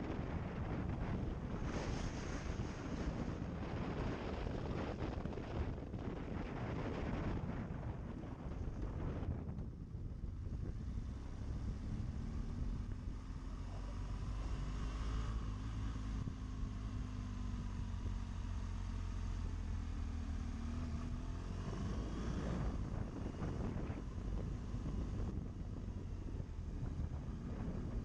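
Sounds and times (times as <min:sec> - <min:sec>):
motorcycle engine cruising: 0:00.0 - 0:28.0
wind rumbling on microphone: 0:00.0 - 0:28.0.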